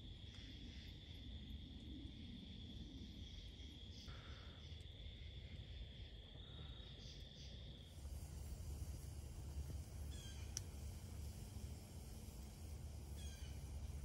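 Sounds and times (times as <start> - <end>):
high-pitched insect trill: 2.1 - 14.0.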